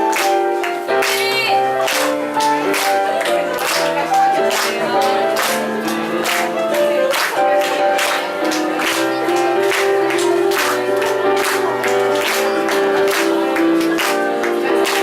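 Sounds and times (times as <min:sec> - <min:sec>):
ukulele group playing: 0:00.0 - 0:15.0.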